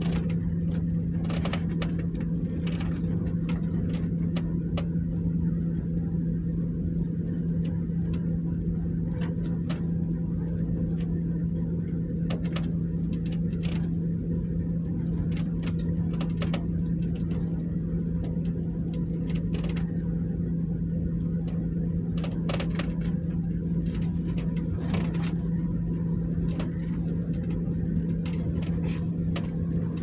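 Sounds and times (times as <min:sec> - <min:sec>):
light clicks and rattles: 0:00.0 - 0:30.0
low mechanical hum: 0:00.0 - 0:30.0.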